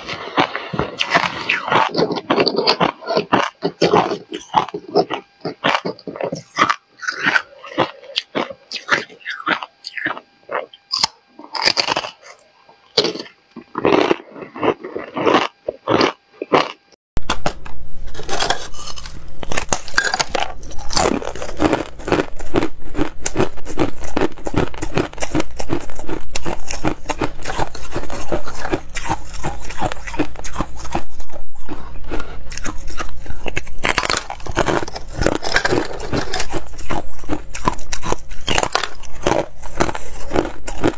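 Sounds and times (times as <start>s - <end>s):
ice being chewed: 0.0s - 16.8s, 18.1s - 40.9s
low steady hum: 0.0s - 40.9s.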